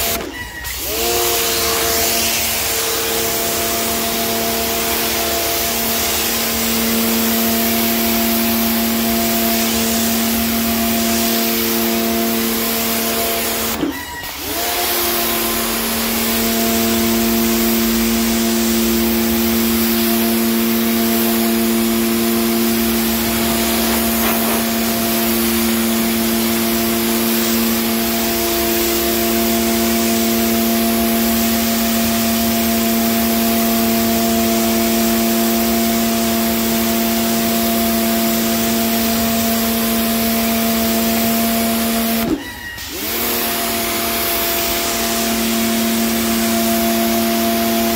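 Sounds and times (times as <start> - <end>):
pressure washer motor humming: 0.0 - 47.9
water jet hissing: 0.0 - 47.9.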